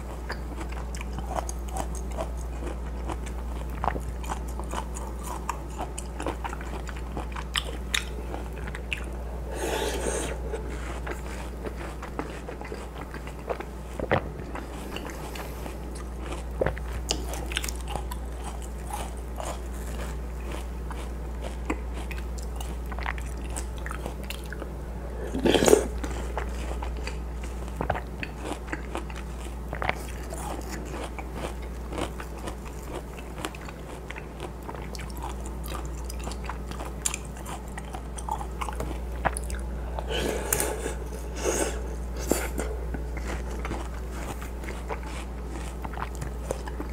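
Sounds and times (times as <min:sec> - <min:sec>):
chewing watermelon crunches: 0:00.0 - 0:46.9.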